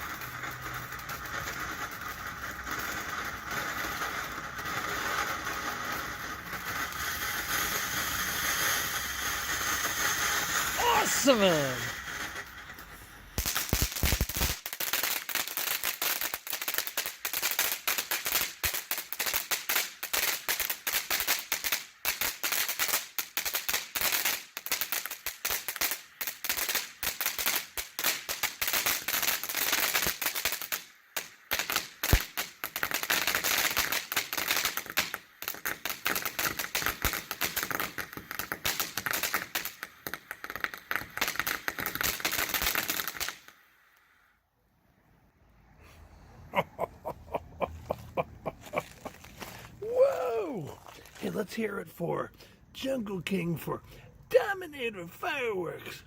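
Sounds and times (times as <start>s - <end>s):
fireworks fountain crackling: 0.0s - 44.4s, 45.4s - 56.0s.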